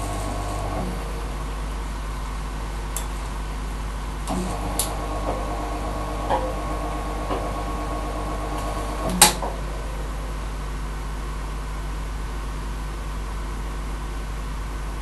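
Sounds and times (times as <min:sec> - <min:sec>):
washing machine electrical hum: 0:00.0 - 0:15.0.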